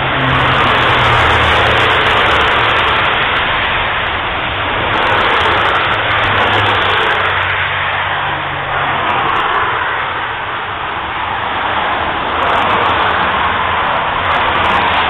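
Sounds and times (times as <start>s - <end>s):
motorway traffic passing: 0.0s - 15.0s.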